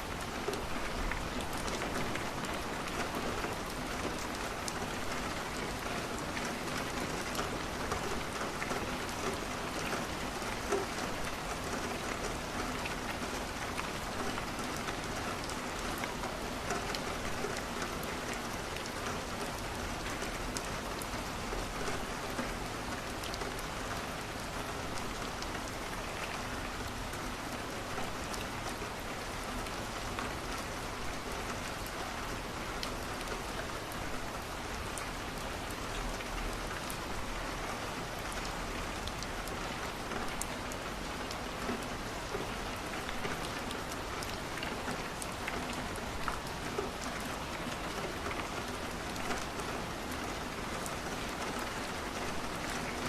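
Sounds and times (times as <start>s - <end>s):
rain pattering on a window: 0.0s - 53.0s.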